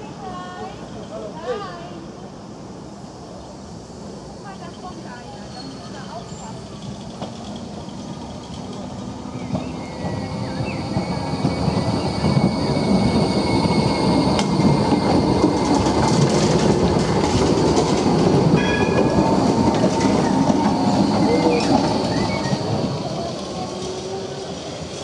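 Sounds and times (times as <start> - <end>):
tram rumbling past on rails: 0.0 - 25.0.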